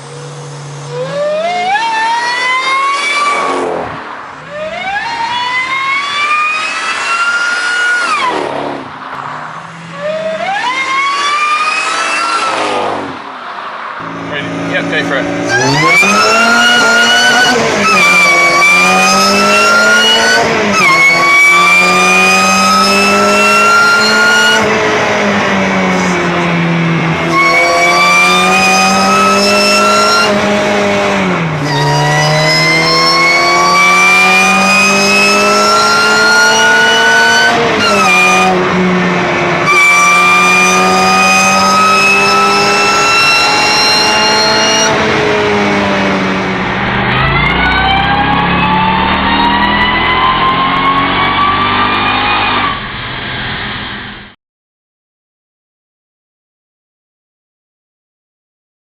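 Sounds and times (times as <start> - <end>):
supercharger whine: 0.0 - 13.2, 14.0 - 54.4
car accelerating hard: 0.0 - 53.8.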